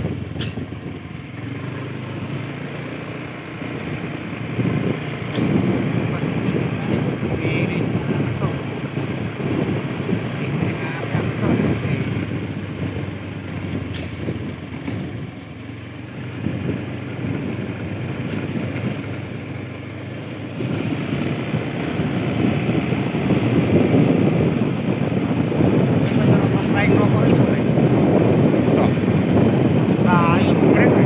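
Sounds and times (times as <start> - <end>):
motorcycle engine: 0.0 - 31.0
road noise on dirt track: 0.0 - 31.0.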